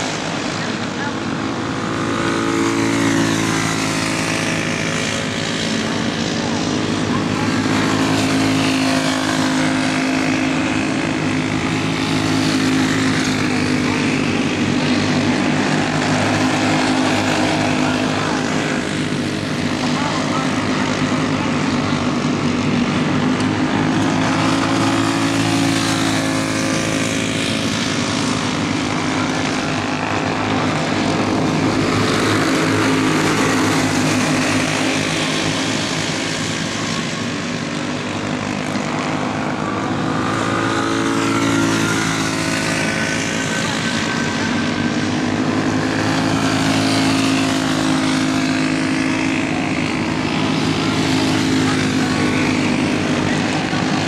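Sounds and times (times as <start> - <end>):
go-kart engines racing: 0.0 - 54.0.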